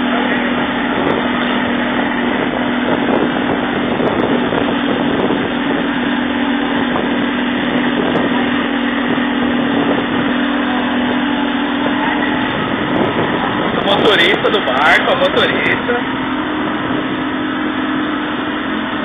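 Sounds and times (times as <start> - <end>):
outboard engine droning: 0.0 - 19.0
wind and water rushing: 0.0 - 19.0.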